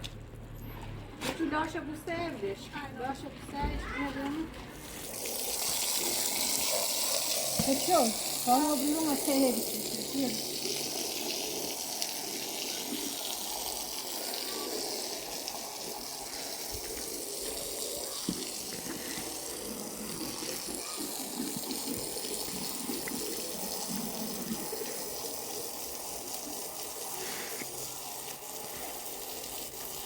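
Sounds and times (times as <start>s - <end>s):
tap water running and splashing: 3.2s - 30.0s.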